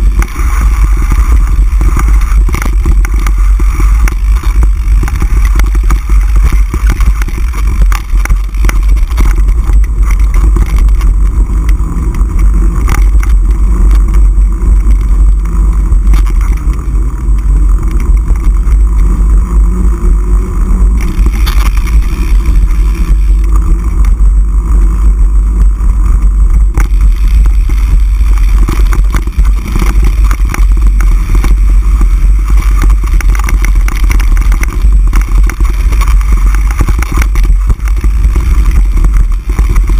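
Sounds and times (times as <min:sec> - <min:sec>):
bike clattering rattles: 0:00.0 - 0:20.2, 0:20.8 - 0:39.9
bike tyre noise: 0:00.0 - 0:39.9
wind rumble on microphone: 0:00.0 - 0:39.9.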